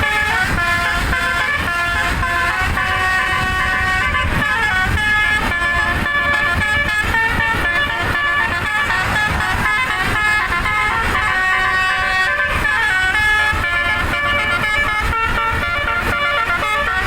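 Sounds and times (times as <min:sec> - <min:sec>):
musical air horn melody: 0:00.0 - 0:17.0.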